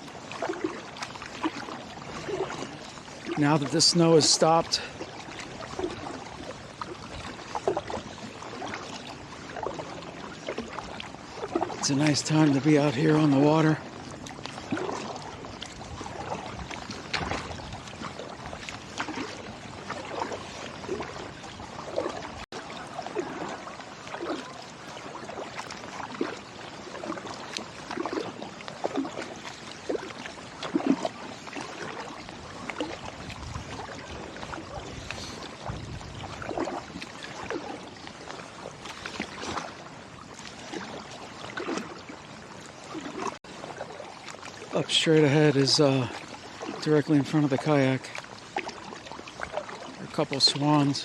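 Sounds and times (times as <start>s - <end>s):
paddle splashing in water: 0.0s - 51.0s
water dripping off paddle: 0.0s - 51.0s.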